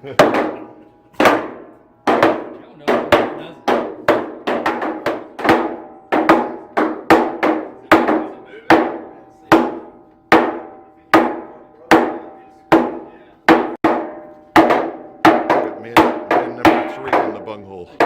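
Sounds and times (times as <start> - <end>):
hollow knocks on wooden barrel: 1.2 - 17.5.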